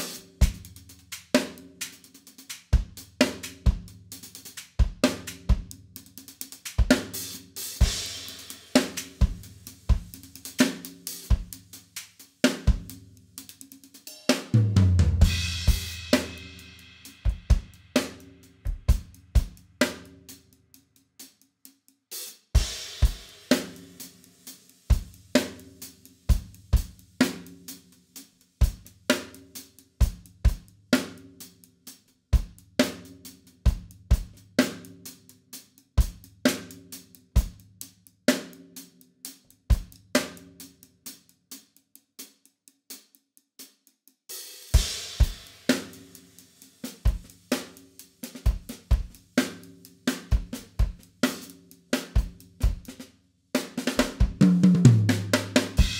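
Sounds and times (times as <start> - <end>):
drum kit groove: 0.0 - 55.9.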